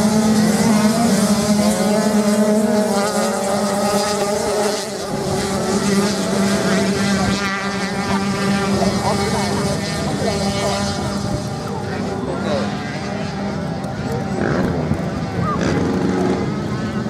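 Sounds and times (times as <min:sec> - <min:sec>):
motocross bikes revving: 0:00.0 - 0:17.0
steady low drone: 0:00.0 - 0:17.0.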